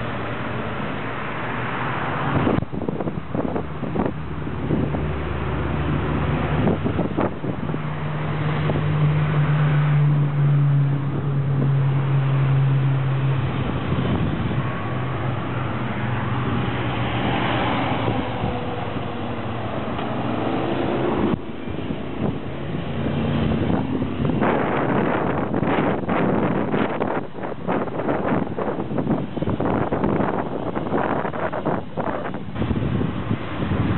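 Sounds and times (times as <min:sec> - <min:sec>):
motorcycles passing: 0:00.0 - 0:33.9
wind on microphone: 0:00.0 - 0:33.9.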